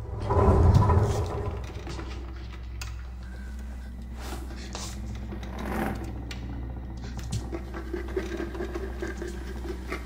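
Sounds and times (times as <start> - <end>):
steady low drone: 0.0 - 10.0.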